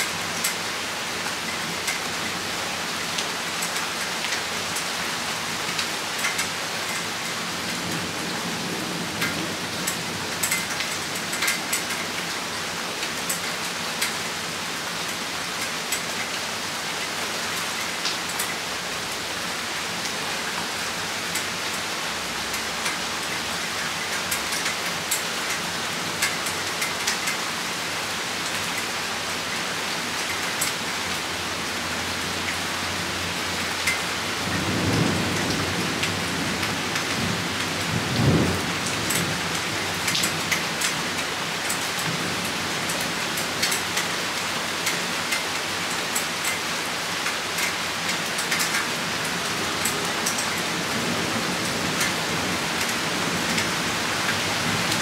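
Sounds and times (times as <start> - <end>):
raindrops ticking on hard surface: 0.0 - 8.2, 9.0 - 55.0
rain falling: 0.0 - 55.0.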